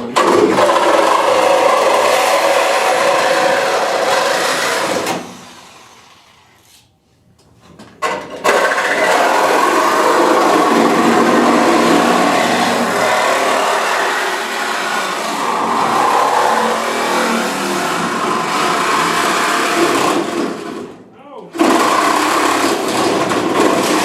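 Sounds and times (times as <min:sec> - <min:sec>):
power tool on sheet metal: 0:00.0 - 0:06.8, 0:08.1 - 0:21.0, 0:21.6 - 0:24.0.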